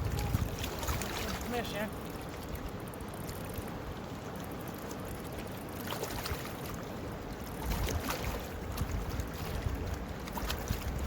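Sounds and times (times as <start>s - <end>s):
river water rushing: 0.0s - 11.0s
wind rumbling on microphone: 0.0s - 11.0s.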